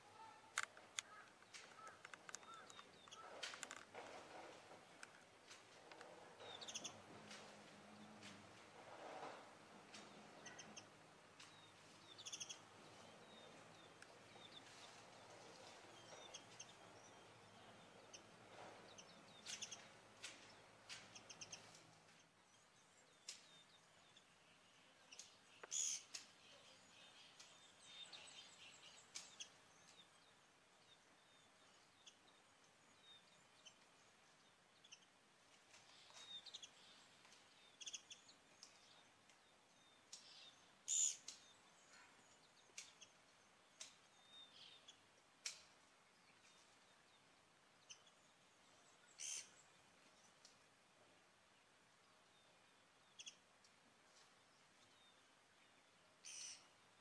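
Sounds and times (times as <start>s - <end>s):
faint background noise: 0.0s - 57.0s.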